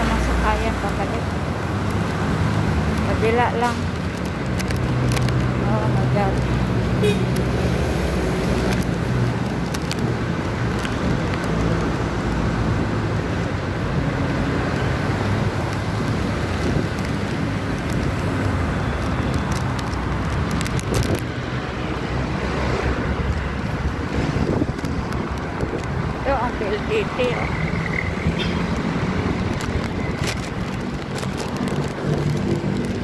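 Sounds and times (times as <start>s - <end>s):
city street traffic rumble: 0.0s - 33.0s.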